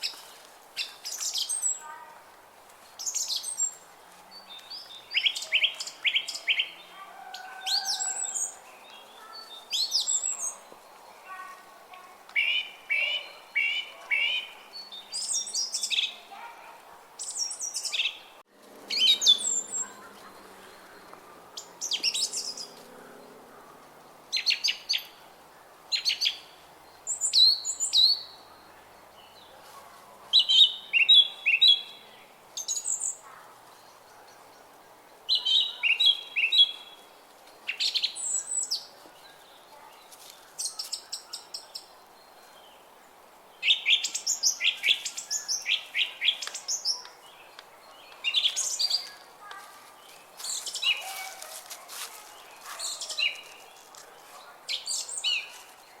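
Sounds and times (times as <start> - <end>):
songbirds chirping: 0.0 - 56.0
faint background hiss: 8.0 - 56.0.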